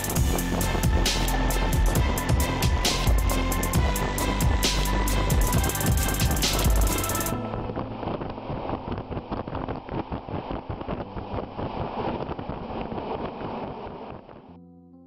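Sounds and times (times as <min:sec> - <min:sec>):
wind thumps on microphone: 0:00.0 - 0:14.5.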